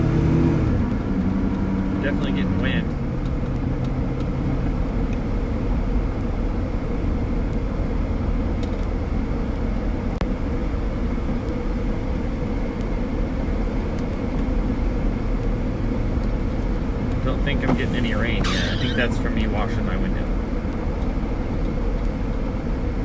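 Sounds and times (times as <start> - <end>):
car cabin road and wind noise: 0.0 - 23.0.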